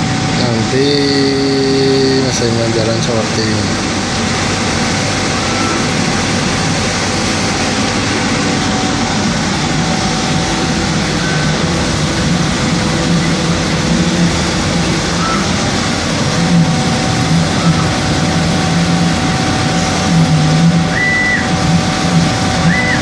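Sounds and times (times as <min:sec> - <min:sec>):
laser cutting machine running: 0:00.0 - 0:23.0.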